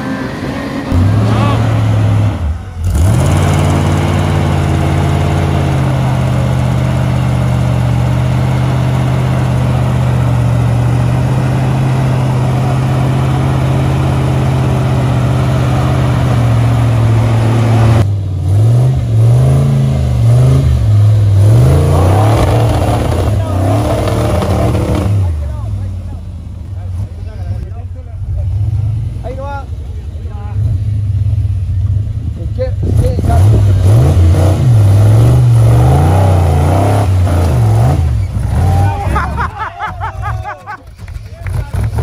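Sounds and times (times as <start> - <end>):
car engine revving: 0.0 - 39.7, 40.8 - 42.0.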